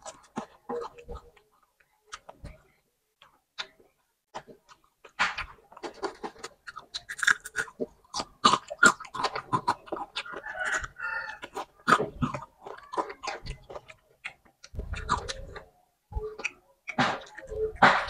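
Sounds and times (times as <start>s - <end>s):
wet chewing and lip-smacking: 0.0s - 18.0s.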